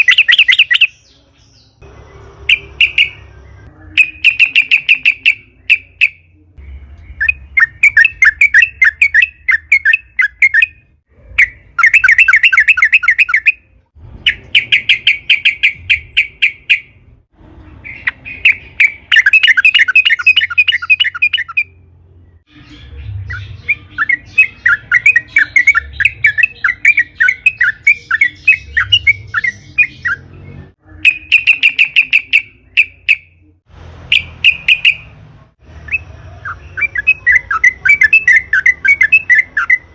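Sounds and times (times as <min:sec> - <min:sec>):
bulbul singing fast repeated notes: 0:00.0 - 0:01.1, 0:02.4 - 0:17.1, 0:17.8 - 0:21.8, 0:23.3 - 0:30.2, 0:30.9 - 0:33.5, 0:34.1 - 0:35.2, 0:35.8 - 0:39.9.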